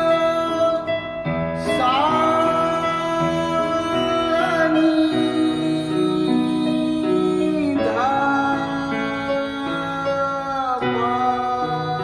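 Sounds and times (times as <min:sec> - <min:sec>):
electronic keyboard chords: 0:00.0 - 0:12.0.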